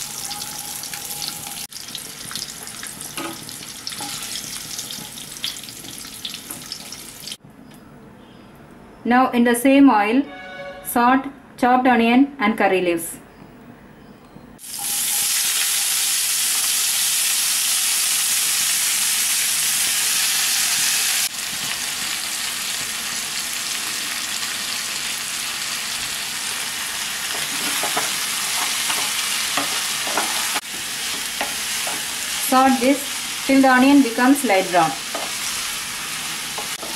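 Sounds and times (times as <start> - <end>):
onions sizzling in hot oil: 0.0 - 7.4, 14.6 - 36.9.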